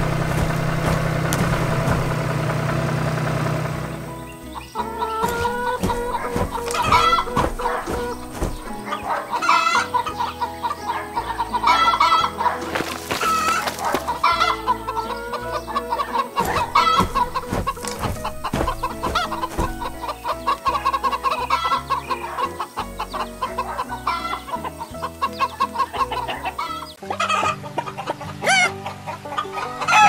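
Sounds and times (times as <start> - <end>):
chickens clucking: 0.0 - 3.0, 3.6 - 30.0
light background music: 0.0 - 30.0.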